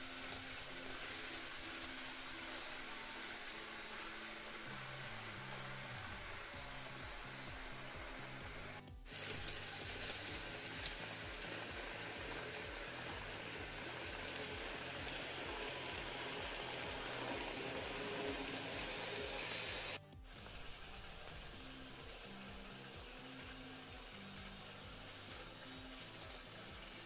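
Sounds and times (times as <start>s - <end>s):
model train whirring on rails: 0.0s - 27.0s.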